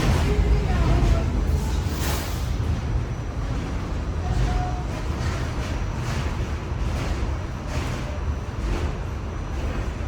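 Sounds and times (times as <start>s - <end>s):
subway car rumble: 0.0s - 10.0s.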